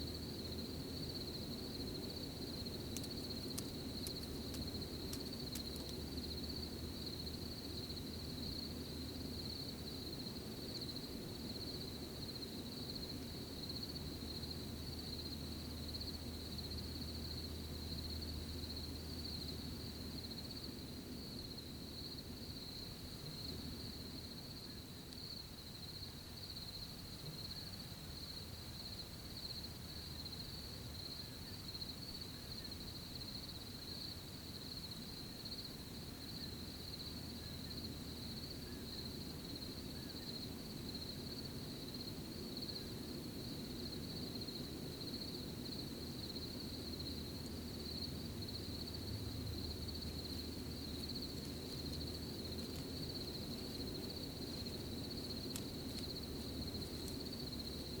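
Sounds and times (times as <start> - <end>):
crickets chirping: 0.0 - 58.0
low outdoor background rumble: 0.0 - 58.0.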